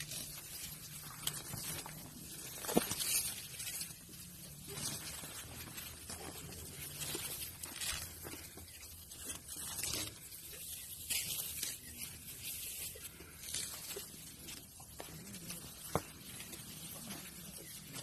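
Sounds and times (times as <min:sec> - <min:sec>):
tall grass rustling: 0:00.0 - 0:18.0.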